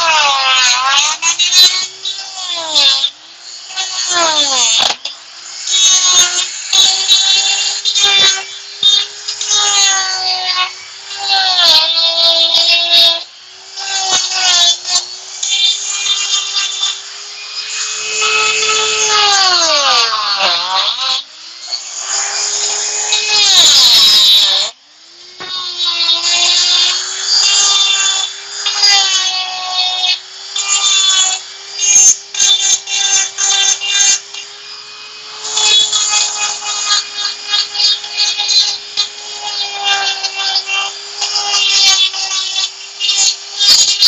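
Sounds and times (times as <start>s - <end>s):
die grinder whining into wood: 0.0s - 44.0s.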